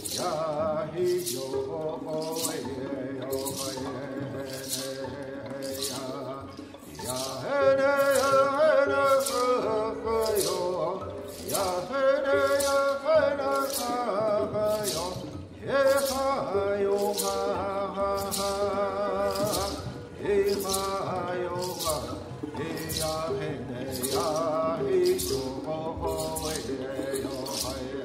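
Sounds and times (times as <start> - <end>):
bowed strings: 0.0 - 28.0
hand rattles shaken: 0.0 - 28.0
men singing: 0.0 - 28.0.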